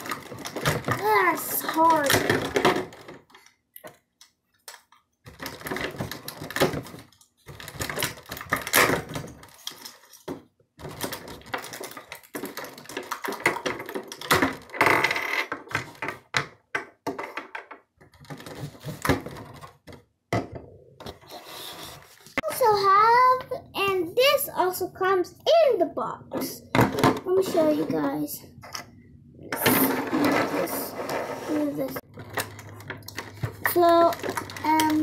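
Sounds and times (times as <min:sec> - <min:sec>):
rummaging through plastic parts: 0:00.0 - 0:24.0, 0:26.3 - 0:35.0.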